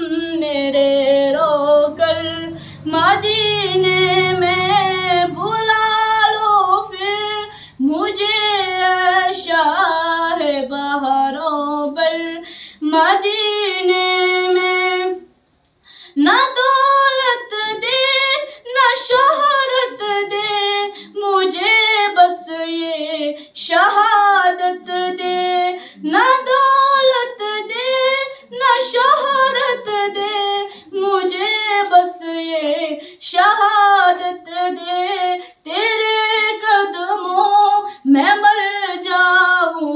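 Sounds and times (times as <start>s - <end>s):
girl singing into a microphone: 0.0s - 15.3s, 16.1s - 39.9s.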